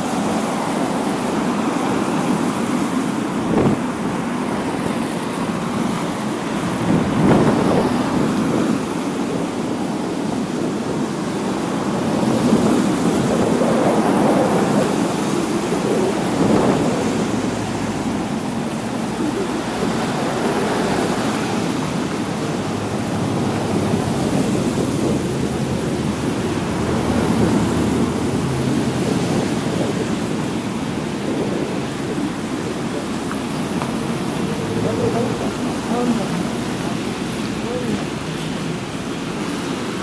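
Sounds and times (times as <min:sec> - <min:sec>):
cars passing on wet asphalt: 0:00.0 - 0:40.0.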